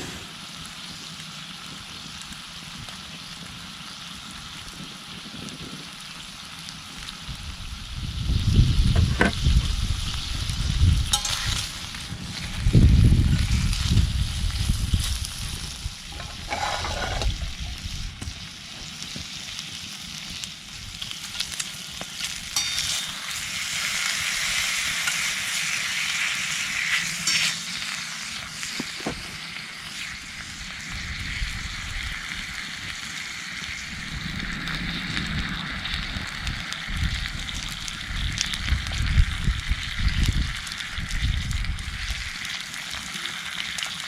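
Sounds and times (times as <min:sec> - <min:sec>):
food sizzling in a hot pan: 0:00.0 - 0:44.0.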